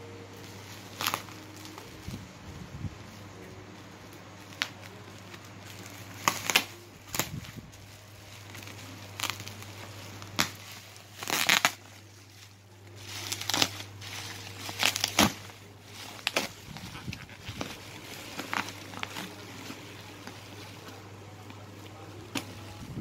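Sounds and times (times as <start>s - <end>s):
plastic wrapping crinkling: 0.0s - 23.0s
steady low hum: 0.0s - 23.0s.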